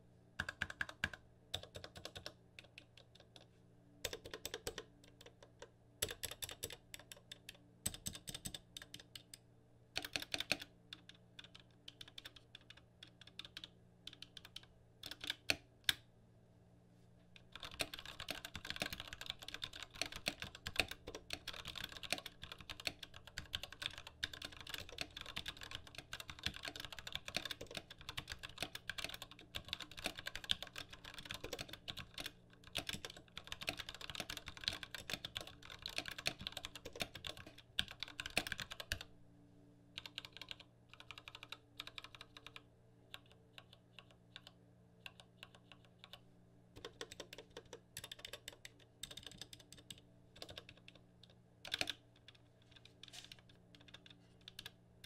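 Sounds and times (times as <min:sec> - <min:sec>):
typing on mechanical keyboard: 0:00.4 - 0:09.4, 0:10.0 - 0:16.0, 0:17.4 - 0:39.1, 0:40.0 - 0:46.2, 0:46.8 - 0:54.8.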